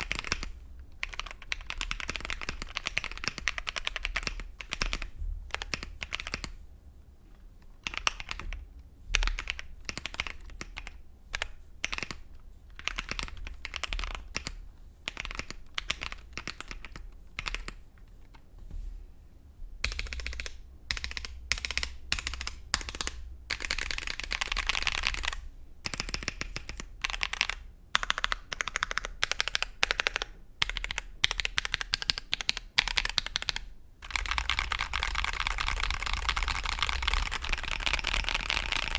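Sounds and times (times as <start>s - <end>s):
mechanical keyboard typing: 0.0s - 6.5s, 7.8s - 8.6s, 9.2s - 17.8s, 19.8s - 38.9s.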